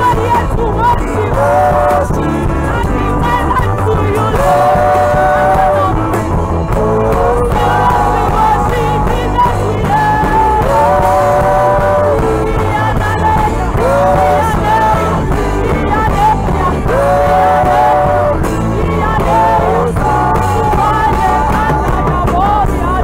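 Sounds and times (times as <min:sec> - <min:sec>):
backing singers: 0:00.0 - 0:23.0
band accompaniment: 0:00.0 - 0:23.0
woman singing lead: 0:00.0 - 0:23.0.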